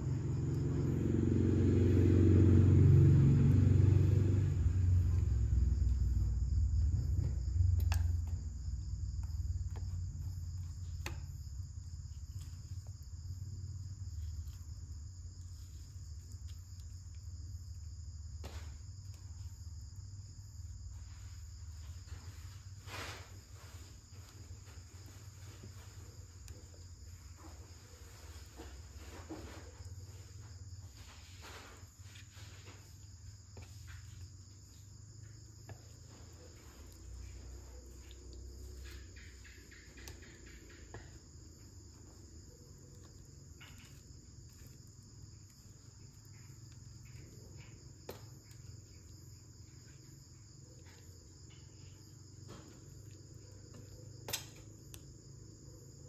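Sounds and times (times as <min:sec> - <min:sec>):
high insect chorus: 0:00.0 - 0:56.0.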